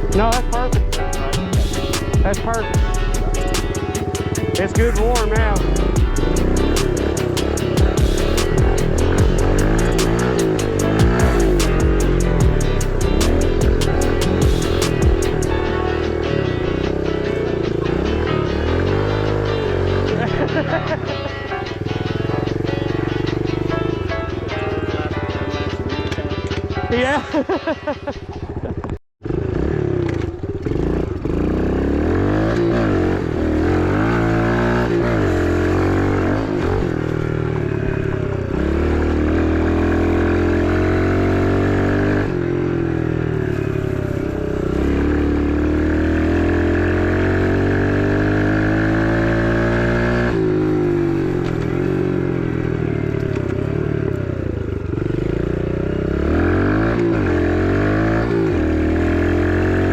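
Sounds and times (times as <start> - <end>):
motorbike engine revving: 0.0 - 26.8, 28.0 - 59.9.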